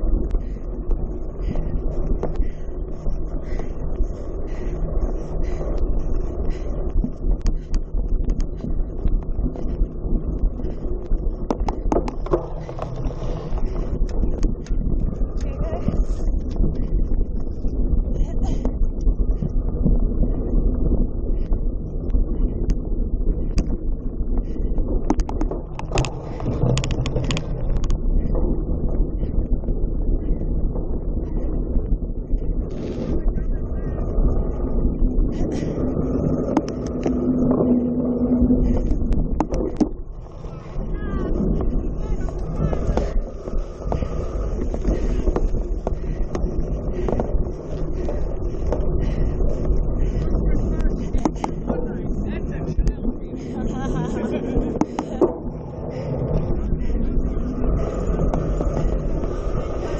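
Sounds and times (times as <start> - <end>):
sharp clicks and rattles: 0.0 - 59.9
wind buffeting microphone: 0.0 - 59.9.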